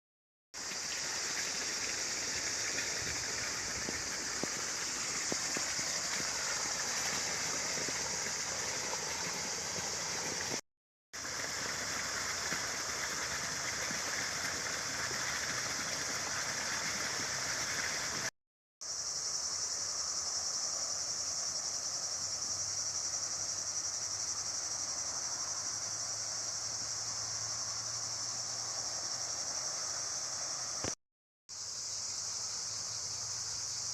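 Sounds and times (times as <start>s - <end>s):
faint hiss: 0.6s - 10.6s, 11.2s - 33.9s
insects chirping: 0.6s - 10.6s, 11.2s - 33.9s.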